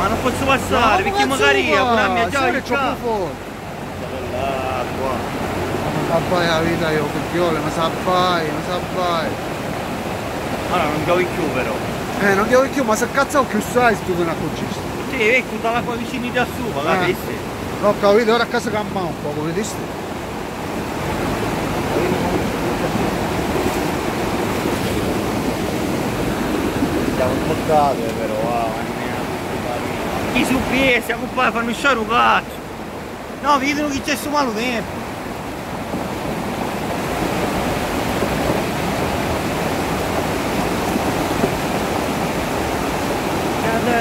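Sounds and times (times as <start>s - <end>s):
floodwater rushing: 0.0s - 44.0s.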